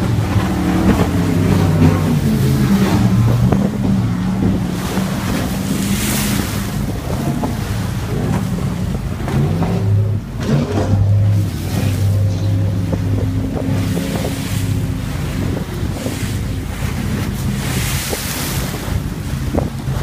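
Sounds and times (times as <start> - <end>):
motorboat engine running: 0.0 - 20.0
waves splashing: 0.0 - 20.0
wind buffeting microphone: 0.0 - 20.0.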